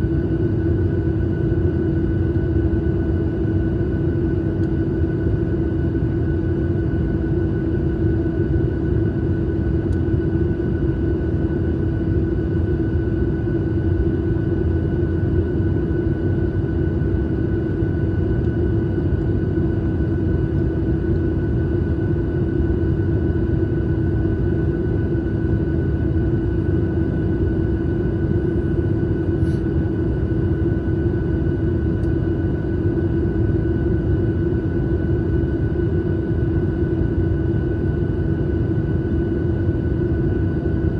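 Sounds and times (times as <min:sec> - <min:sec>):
airliner engine drone: 0:00.0 - 0:40.9
constant hum: 0:00.0 - 0:40.9.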